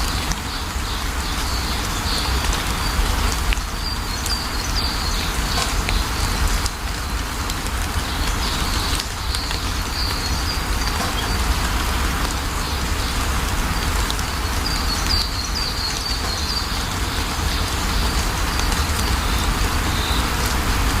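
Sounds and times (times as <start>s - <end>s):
small birds chirping: 0.0s - 20.8s
steady rain falling: 0.0s - 21.0s.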